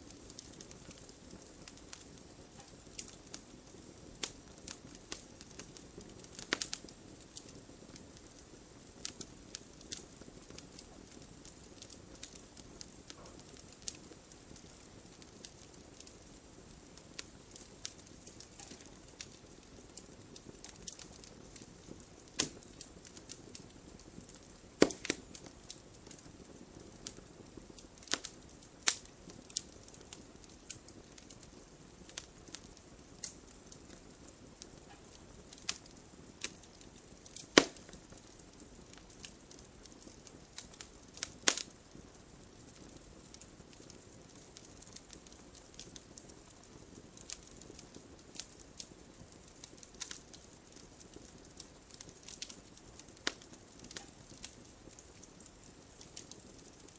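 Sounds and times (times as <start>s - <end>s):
soft low hiss: 0.0s - 56.9s
wood fire crackling: 0.0s - 56.9s.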